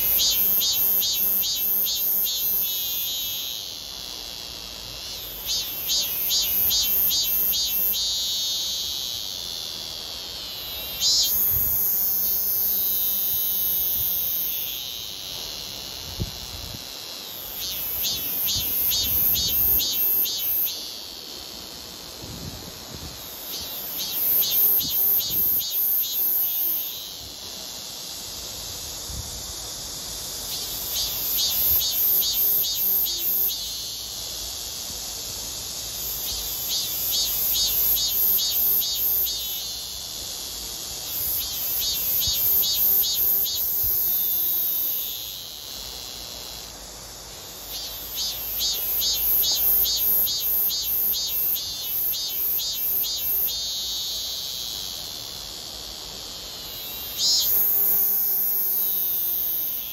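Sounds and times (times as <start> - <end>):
cicada singing: 0.0 - 59.9.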